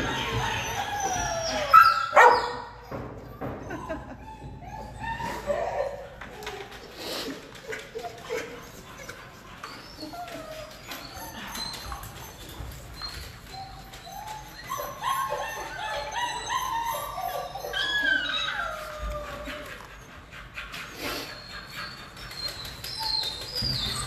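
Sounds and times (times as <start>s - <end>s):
dogs whining and yelping: 0.0s - 24.0s.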